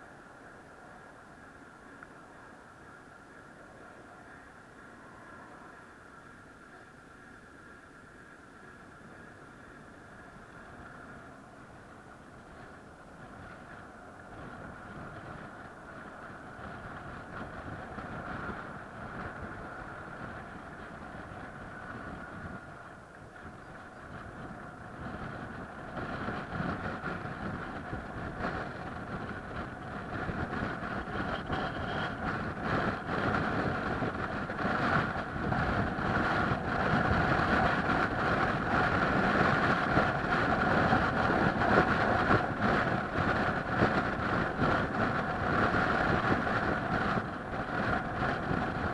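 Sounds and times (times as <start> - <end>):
vehicle engine drone: 0.0 - 48.9.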